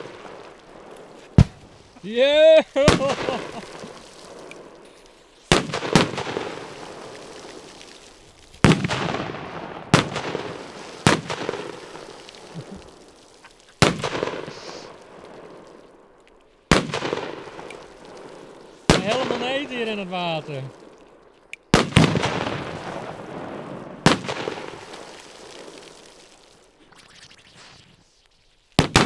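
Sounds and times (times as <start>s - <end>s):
firecrackers banging in water: 0.0s - 29.0s.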